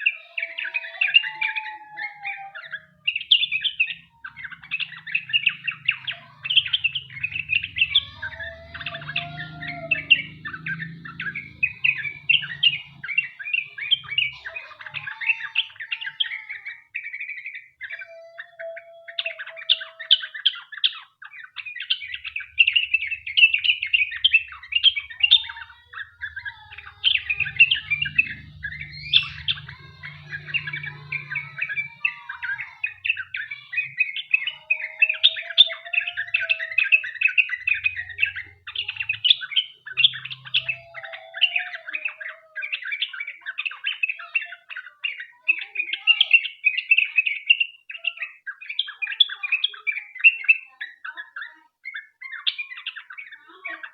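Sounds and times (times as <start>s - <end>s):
bird singing rapid chirps: 0.0s - 53.9s.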